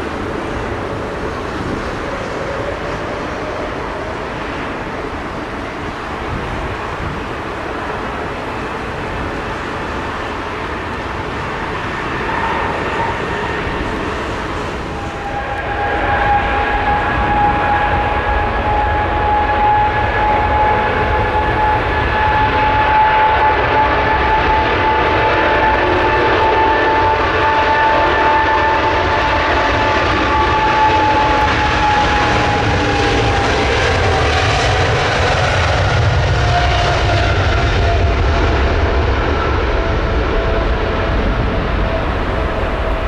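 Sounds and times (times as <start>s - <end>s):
jet engines at takeoff power: 0.0s - 43.0s.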